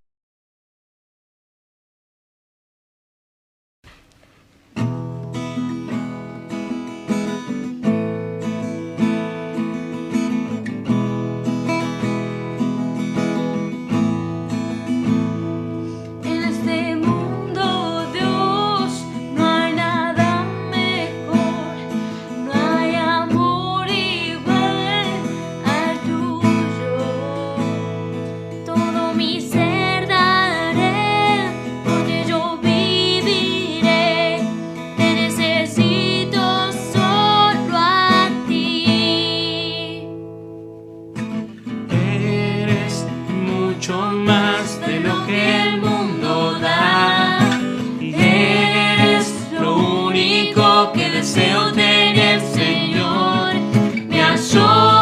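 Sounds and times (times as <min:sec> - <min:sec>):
acoustic guitar strumming chords: 0:03.9 - 0:55.0.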